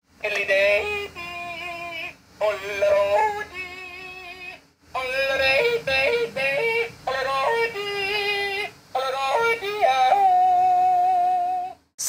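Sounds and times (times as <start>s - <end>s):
toy playing recorded yodel: 0.2s - 11.8s.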